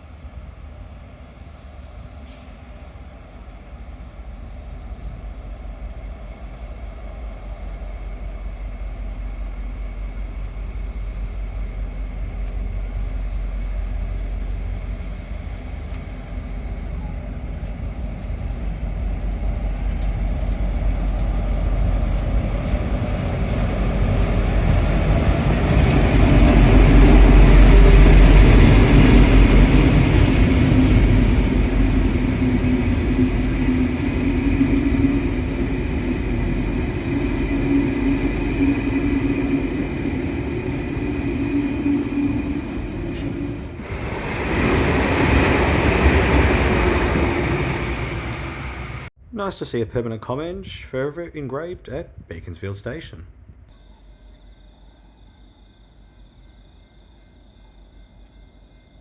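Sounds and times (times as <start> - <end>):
train rumbling past: 0.0 - 49.4.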